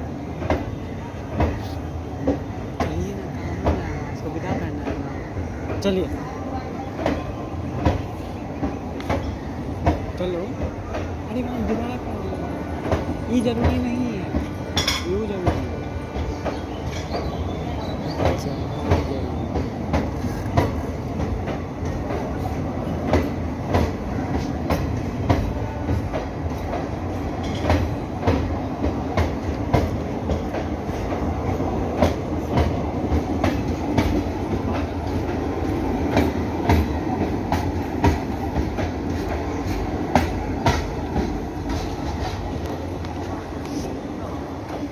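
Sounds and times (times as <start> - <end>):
low train rumble: 0.0 - 44.9
train wheels clacking on rails: 0.0 - 44.9.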